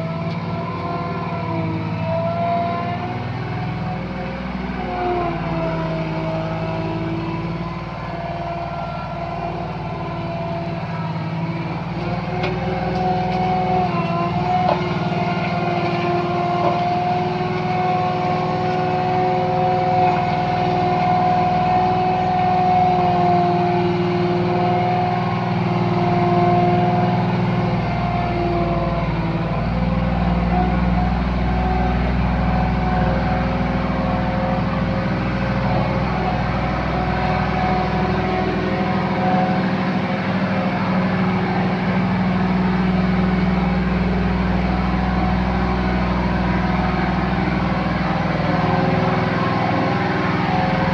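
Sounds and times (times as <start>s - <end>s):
high whine: 0.0s - 50.9s
loader engine drone: 0.0s - 50.9s.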